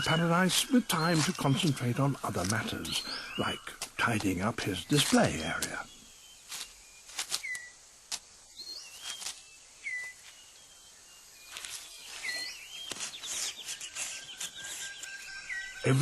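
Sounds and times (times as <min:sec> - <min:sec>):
whistled bird calls: 0:00.0 - 0:07.8, 0:08.5 - 0:16.0.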